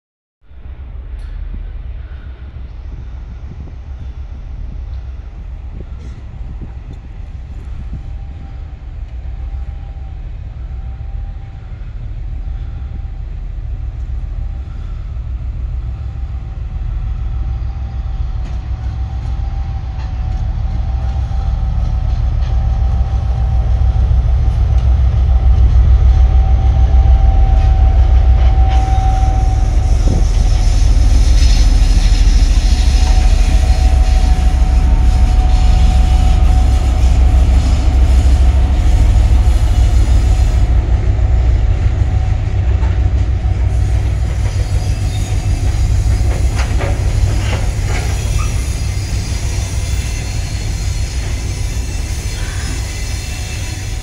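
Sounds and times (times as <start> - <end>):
diesel locomotive throbbing: 0.5 - 54.0.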